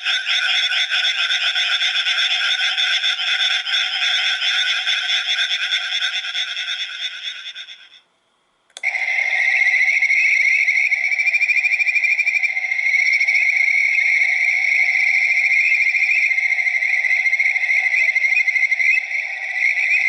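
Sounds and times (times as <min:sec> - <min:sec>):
recorded frog trill from speaker: 0:00.0 - 0:08.0, 0:08.8 - 0:20.0.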